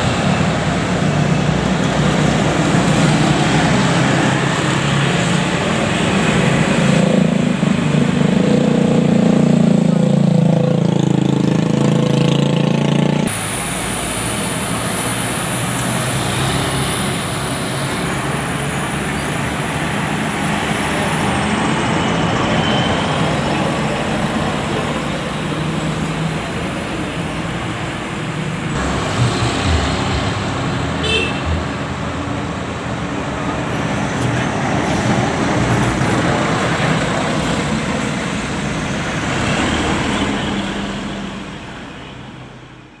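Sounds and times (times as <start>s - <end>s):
bus and truck engines passing: 0.0s - 43.0s
steady road noise: 0.0s - 43.0s.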